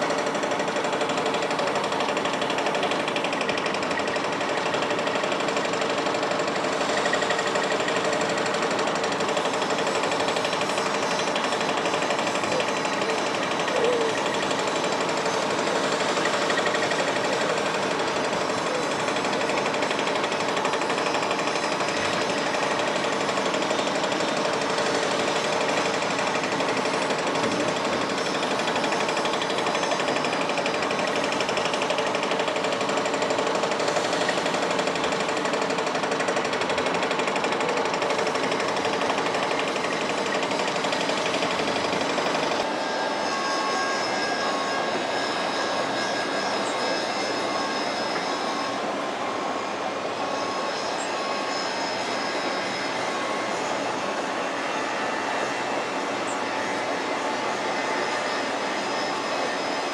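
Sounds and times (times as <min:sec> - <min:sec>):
drilling rig rattling: 0:00.0 - 0:48.9
machine noise with thin whine: 0:00.0 - 0:59.9.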